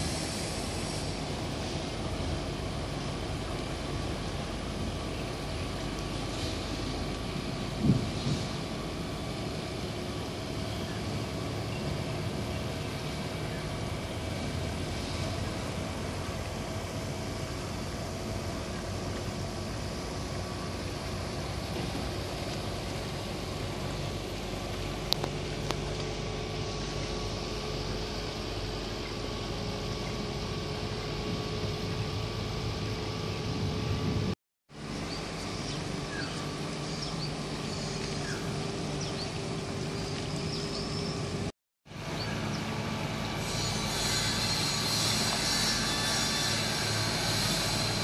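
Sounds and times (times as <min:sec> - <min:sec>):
engine hum: 0:00.0 - 0:48.0.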